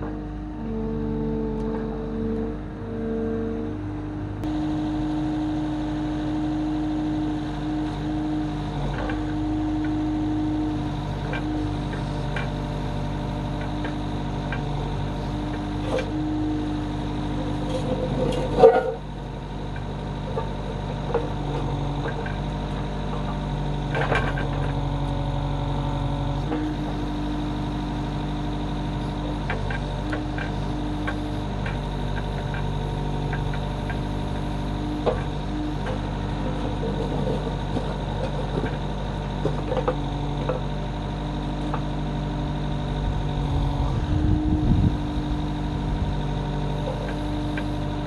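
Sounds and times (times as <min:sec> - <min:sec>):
loader engine and hydraulics: 0:00.0 - 0:48.0
digger arm clunks: 0:04.5 - 0:48.0.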